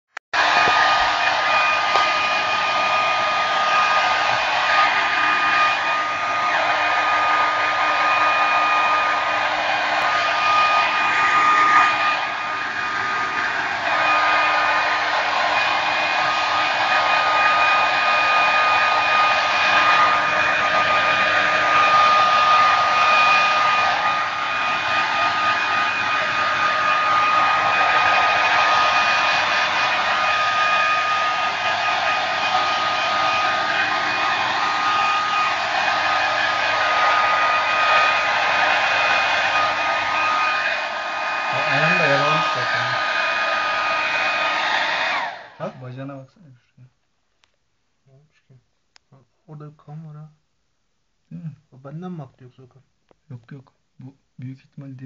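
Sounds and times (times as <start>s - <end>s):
electric blower motor whining: 0.4s - 45.6s.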